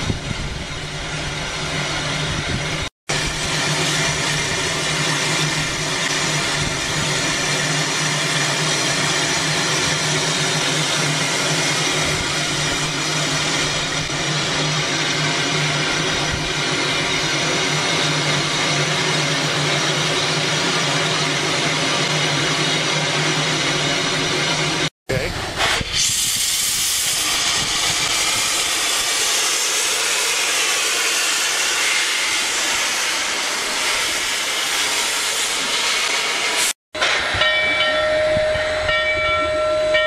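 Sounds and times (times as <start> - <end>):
steam locomotive hissing: 0.0 - 40.0.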